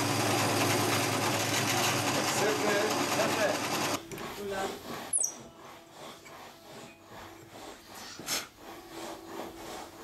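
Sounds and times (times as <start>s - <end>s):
hand tool scraping wood: 0.2s - 10.0s
louder rasp: 1.2s - 10.0s.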